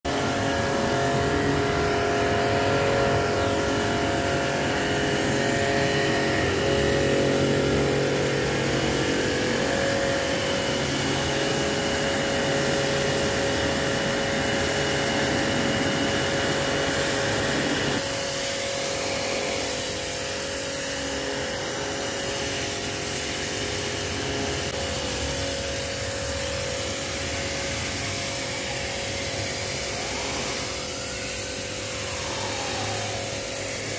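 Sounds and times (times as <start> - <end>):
pressure washer pump humming: 0.1 - 33.9
water jet spraying concrete: 0.1 - 33.9.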